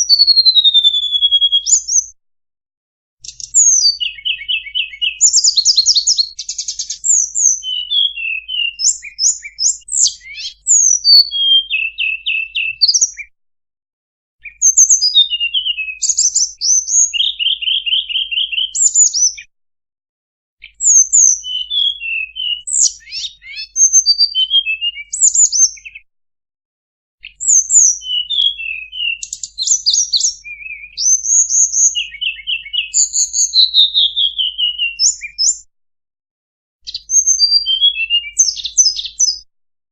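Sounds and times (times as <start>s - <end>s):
bird song chirps and trills: 0.0s - 2.2s, 3.2s - 13.4s, 14.4s - 19.5s, 20.6s - 26.1s, 27.2s - 35.7s, 36.8s - 39.5s.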